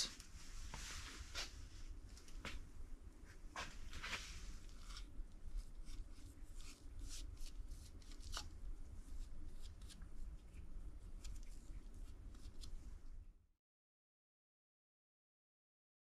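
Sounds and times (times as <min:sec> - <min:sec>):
low steady hum: 0:00.0 - 0:13.5.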